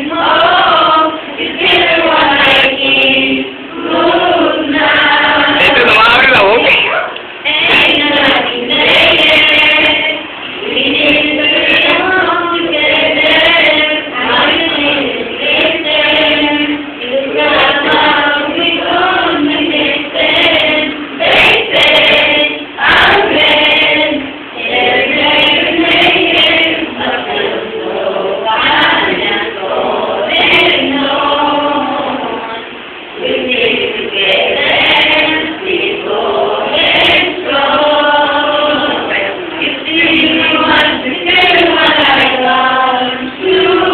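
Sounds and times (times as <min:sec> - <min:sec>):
group of students singing: 0:00.0 - 0:43.9.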